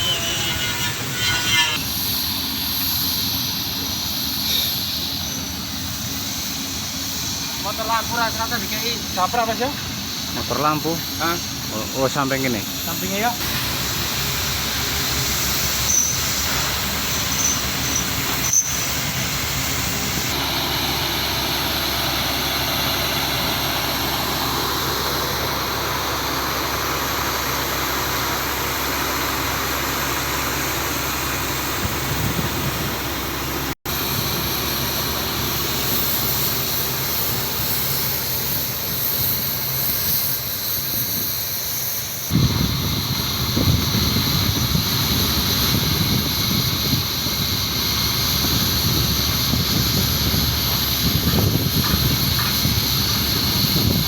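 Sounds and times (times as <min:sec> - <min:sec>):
machinery running: 0:00.0 - 0:54.0.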